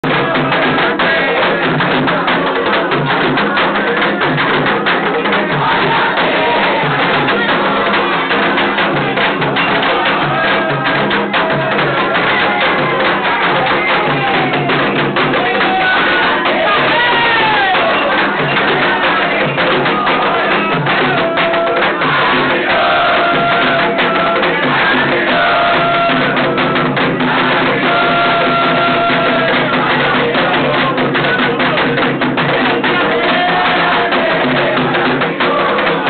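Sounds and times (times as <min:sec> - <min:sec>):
group of voices chanting: 0:00.0 - 0:36.0
hand drums beating fast rhythm: 0:00.0 - 0:36.0.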